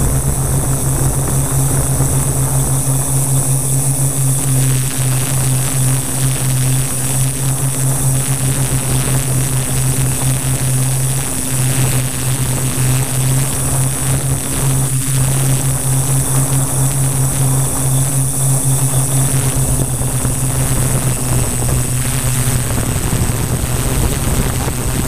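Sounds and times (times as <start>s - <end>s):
drone motors humming: 0.0s - 25.0s
thin high whine: 0.0s - 25.0s
wind noise on microphone: 0.0s - 25.0s.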